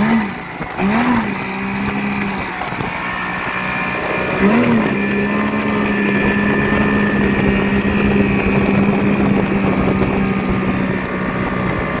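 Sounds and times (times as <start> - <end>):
outboard motor running: 0.0 - 12.0
wake rushing: 0.0 - 12.0
wind: 0.0 - 12.0.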